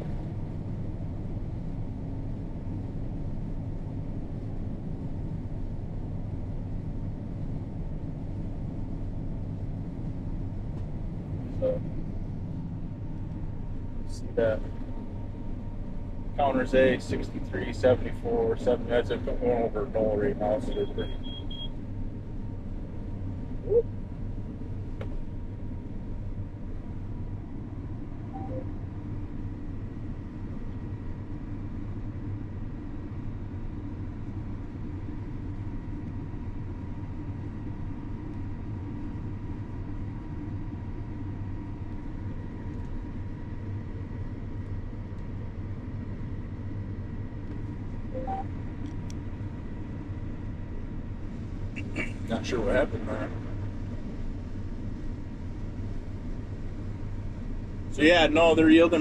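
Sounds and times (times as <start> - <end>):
combine harvester engine drone: 0.0 - 59.0
faint steady whine: 0.0 - 59.0.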